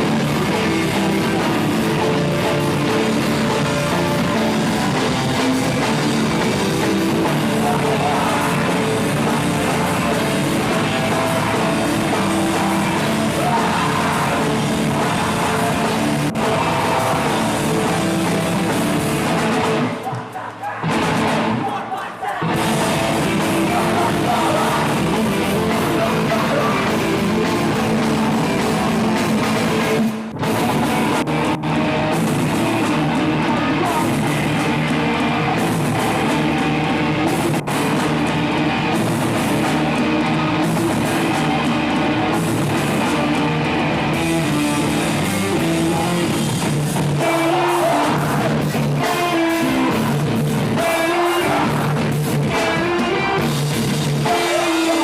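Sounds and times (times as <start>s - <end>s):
person singing: 0.0s - 31.2s, 32.2s - 38.0s, 40.2s - 55.0s
distorted guitars: 0.0s - 55.0s
drum kit: 0.0s - 55.0s.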